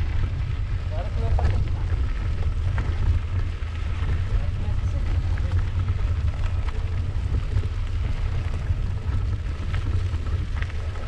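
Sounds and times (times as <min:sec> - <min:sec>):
tyres on gravel: 0:00.0 - 0:11.0
wind buffeting microphone: 0:00.0 - 0:11.0.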